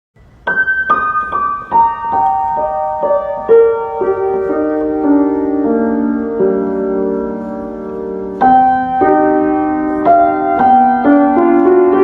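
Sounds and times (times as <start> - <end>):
descending piano notes: 0.2 - 12.0.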